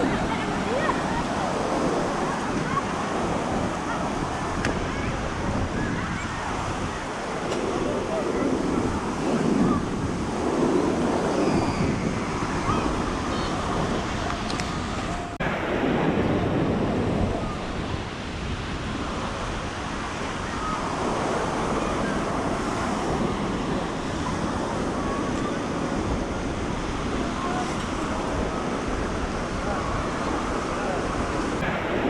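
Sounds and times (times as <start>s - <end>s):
ocean surf breaking on beach: 0.0s - 32.0s
wind buffeting microphone: 0.0s - 32.0s.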